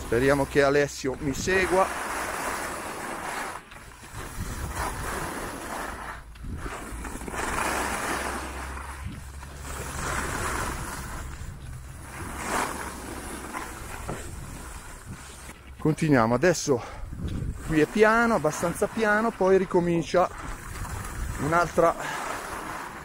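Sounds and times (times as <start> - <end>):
skis scraping over packed snow: 0.0 - 23.0.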